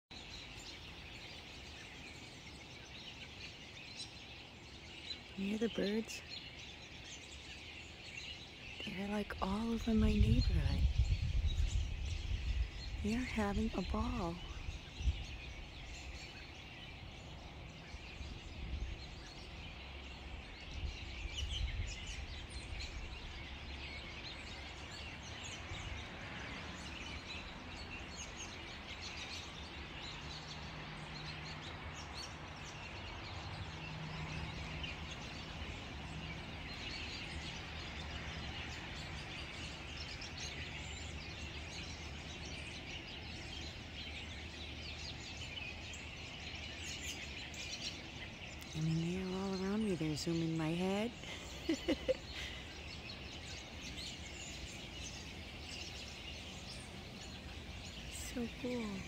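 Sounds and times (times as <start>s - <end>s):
many birds chirping: 0.1s - 59.0s.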